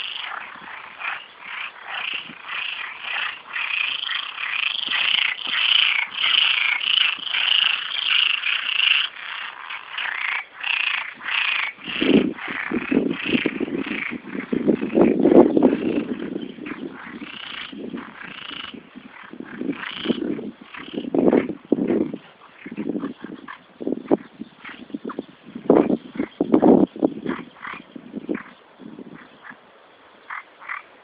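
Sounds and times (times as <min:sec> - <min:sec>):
deep loud frog croaking: 0:00.0 - 0:29.6, 0:30.2 - 0:31.0
frogs croaking: 0:00.0 - 0:31.0.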